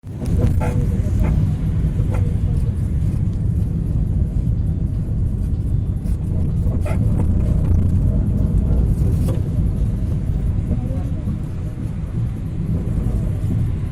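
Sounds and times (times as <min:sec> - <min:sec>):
minibus engine and road noise: 0:00.0 - 0:13.9.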